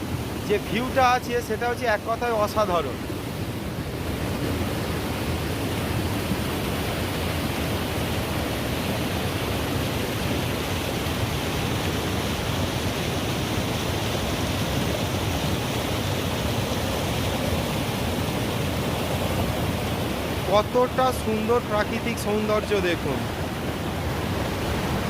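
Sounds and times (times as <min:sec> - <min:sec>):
fast-flowing mountain water: 0:00.0 - 0:25.0.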